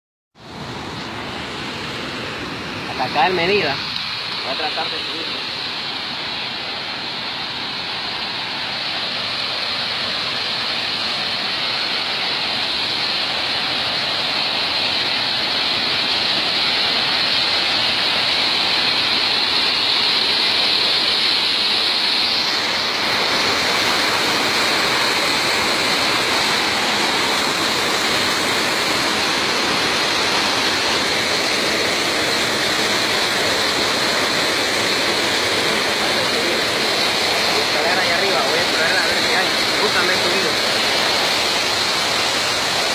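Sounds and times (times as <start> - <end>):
waterfall rushing: 0.4 - 42.9.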